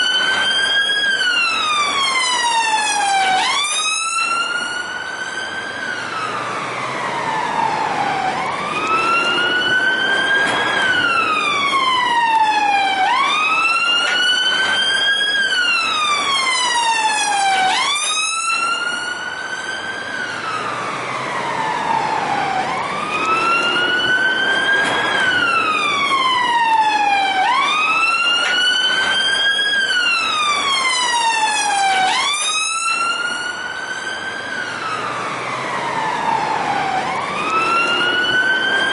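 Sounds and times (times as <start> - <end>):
police car siren wailing: 0.0 - 38.9.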